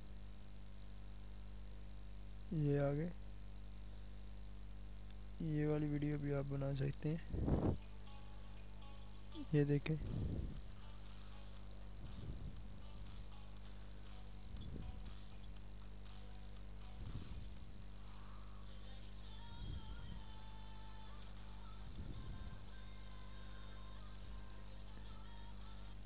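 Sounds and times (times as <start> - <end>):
electrical hum and whine: 0.0 - 26.0.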